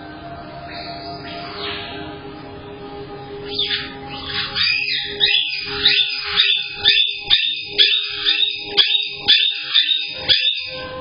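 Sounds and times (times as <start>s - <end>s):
parrots calling: 0.7s - 2.0s, 3.4s - 11.0s.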